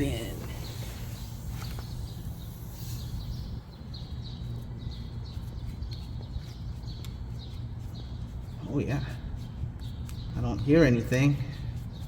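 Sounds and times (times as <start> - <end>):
bird chirping: 0.0 - 12.0
steady low hum: 0.0 - 12.0.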